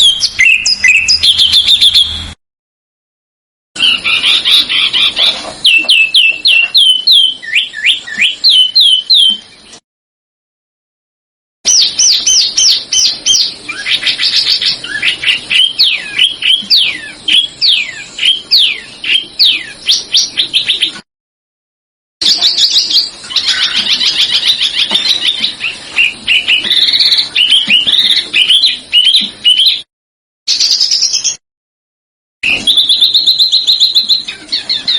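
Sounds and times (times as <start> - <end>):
songbird whistling song: 0.0 - 2.4, 3.8 - 9.6, 11.7 - 21.0, 22.2 - 29.9, 30.5 - 31.4, 32.4 - 34.9.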